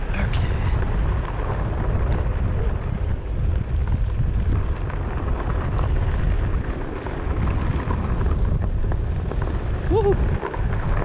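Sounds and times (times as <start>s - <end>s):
low rumble: 0.0s - 11.0s
wind buffeting microphone: 0.0s - 11.0s.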